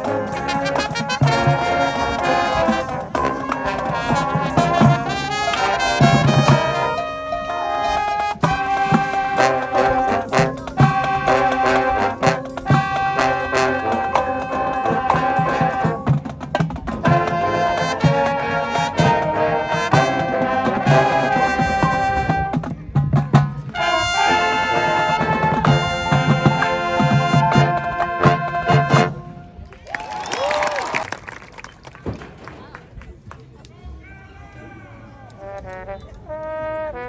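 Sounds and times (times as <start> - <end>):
brass chords: 0.0 - 22.8, 23.6 - 29.7, 35.4 - 37.0
drumline strokes: 0.0 - 29.7.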